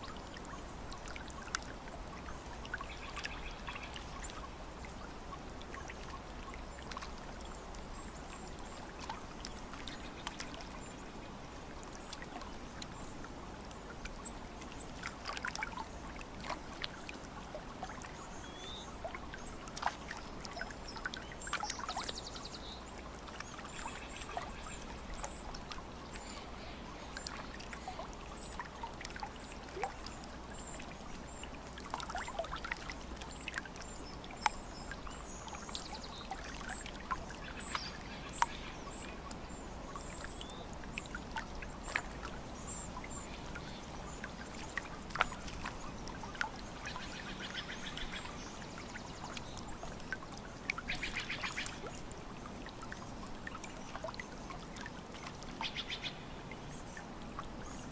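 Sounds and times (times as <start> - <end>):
water lapping at shore: 0.0 - 57.9.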